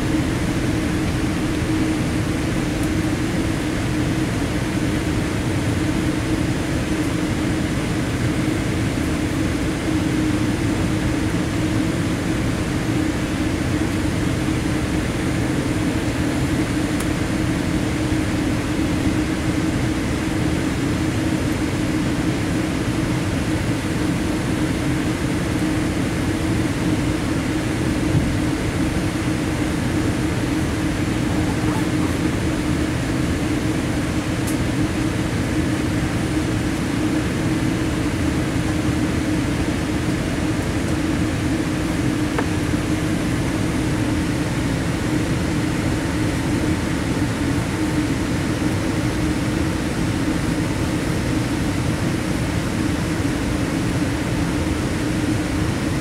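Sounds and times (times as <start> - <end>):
cabin ventilation hiss: 0.0 - 56.0
jet engines idling: 0.0 - 56.0.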